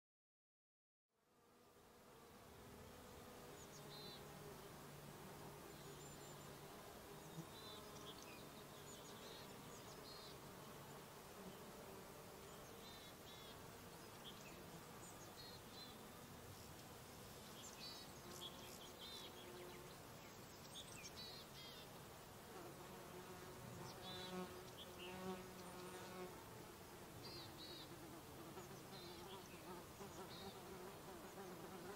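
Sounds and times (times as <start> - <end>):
insects buzzing: 1.3 - 31.9.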